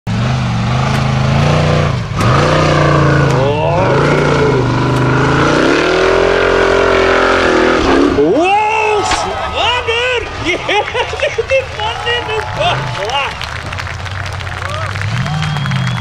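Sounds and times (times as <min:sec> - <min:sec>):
buggy engine revving hard: 0:00.1 - 0:16.0.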